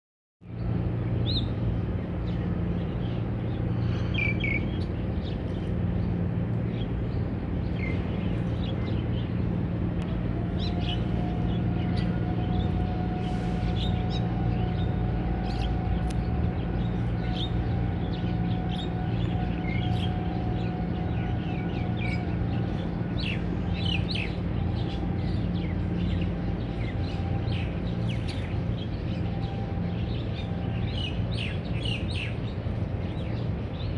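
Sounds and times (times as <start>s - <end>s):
birds chirping: 0.5s - 33.9s
steady low hum: 0.5s - 33.9s.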